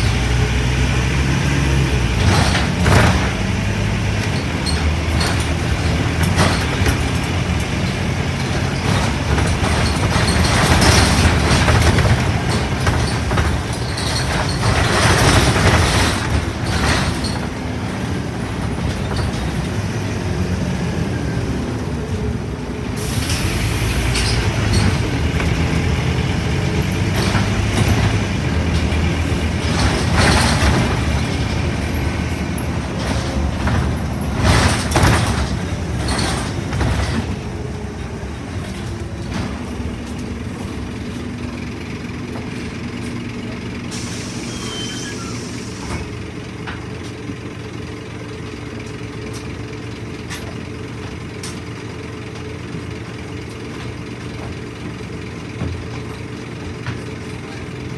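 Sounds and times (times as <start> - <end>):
bus diesel engine running: 0.0 - 57.9
road noise: 0.0 - 57.9.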